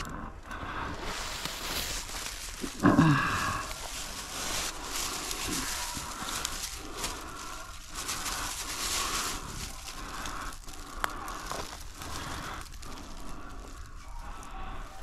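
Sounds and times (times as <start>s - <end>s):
footsteps crunching dry leaves: 0.9s - 15.0s
twig snapping: 1.4s - 14.5s.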